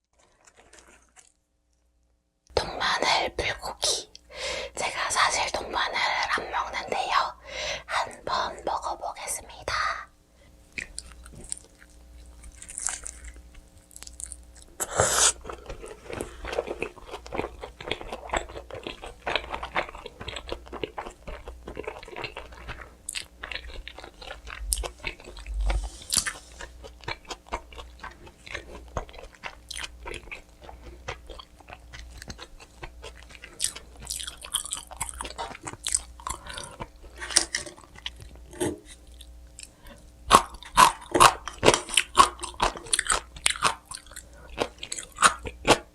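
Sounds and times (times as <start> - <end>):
chewing with crust crackle: 0.0 - 2.1, 2.8 - 45.9.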